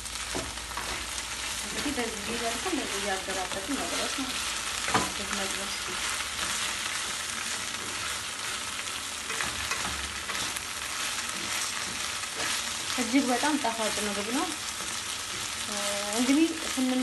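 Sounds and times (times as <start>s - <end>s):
okra sizzling in a pan: 0.0s - 17.0s
wooden spatula scraping a pan: 0.3s - 17.0s.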